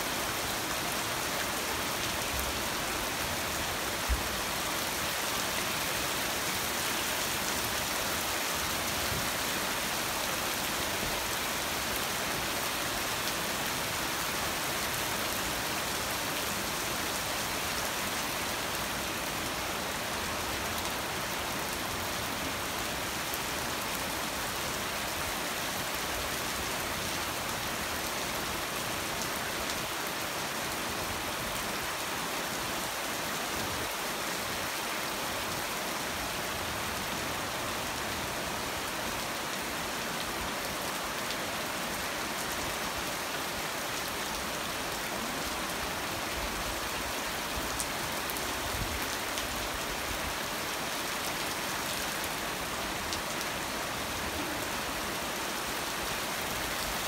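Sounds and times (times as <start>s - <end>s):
rain on a wet street: 0.0s - 57.0s.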